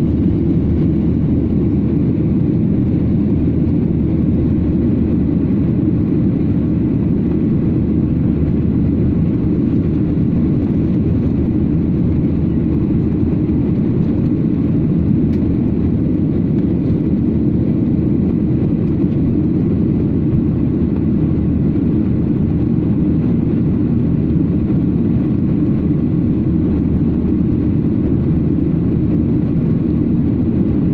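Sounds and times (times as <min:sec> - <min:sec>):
jet airliner cabin roar: 0:00.0 - 0:30.9.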